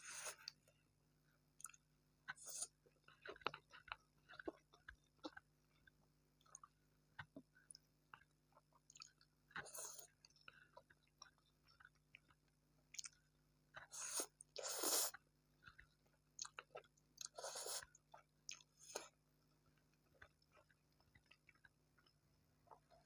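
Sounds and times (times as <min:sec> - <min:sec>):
person chewing food: 0:00.0 - 0:00.8, 0:01.6 - 0:23.0.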